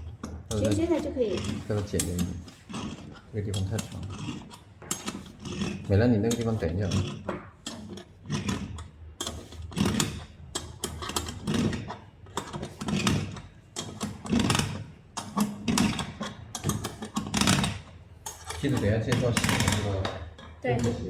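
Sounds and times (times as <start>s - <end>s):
ratcheting tool strokes: 0.0s - 21.0s.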